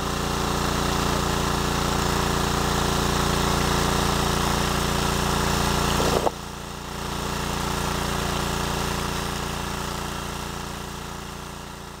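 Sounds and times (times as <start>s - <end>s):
water pump engine running: 0.0s - 12.0s.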